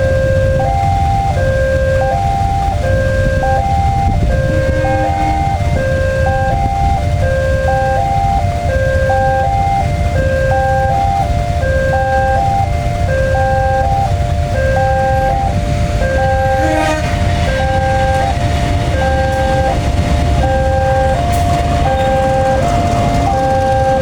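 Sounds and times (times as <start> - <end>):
level-crossing warning alarm: 0.0 - 24.0
train passing rumble: 0.0 - 24.0.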